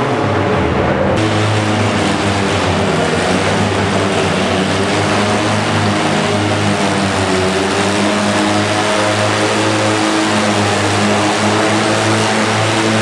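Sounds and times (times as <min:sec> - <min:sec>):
tractor engine drone: 0:00.0 - 0:13.0.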